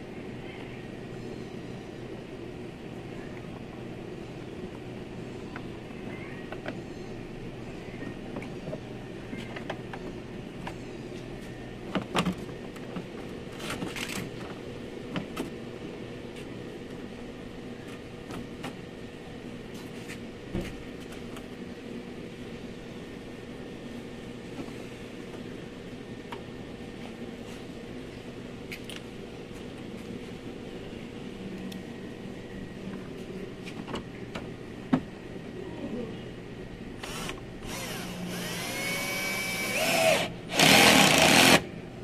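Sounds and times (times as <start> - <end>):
background hum: 0.0 - 42.0.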